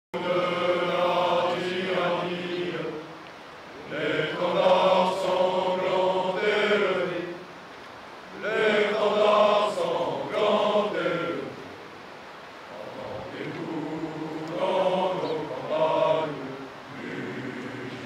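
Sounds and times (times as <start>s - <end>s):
men singing in unison: 0.2s - 3.2s, 3.8s - 7.5s, 8.3s - 11.8s, 12.7s - 18.0s.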